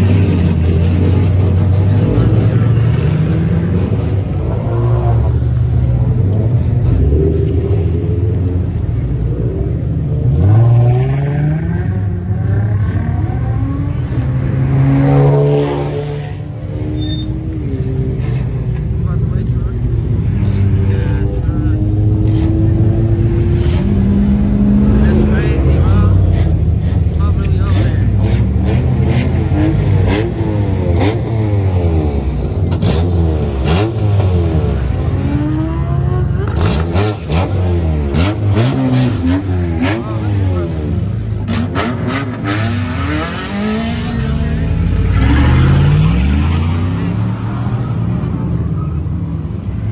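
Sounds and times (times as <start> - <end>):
car engine revving: 0.0 - 49.9
car engines rumbling: 0.0 - 49.9.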